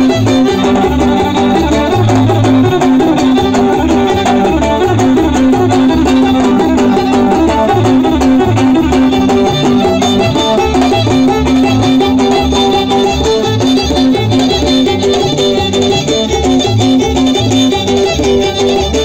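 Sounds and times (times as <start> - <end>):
fiddle: 0.0 - 19.0
live band playing: 0.0 - 19.0
pulsing bass line: 0.0 - 19.0.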